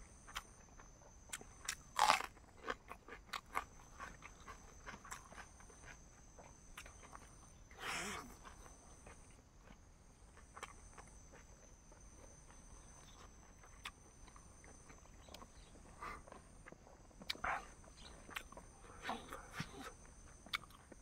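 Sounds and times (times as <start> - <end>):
person chewing and crunching food: 0.2 - 21.0.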